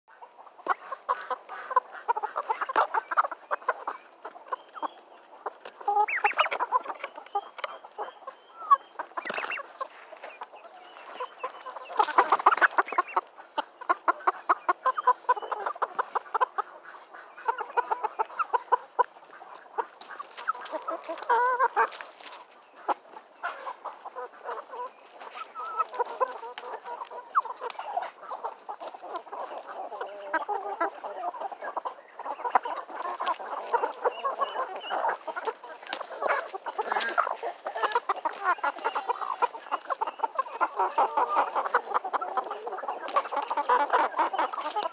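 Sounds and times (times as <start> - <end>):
chickens clucking: 0.1 - 44.9.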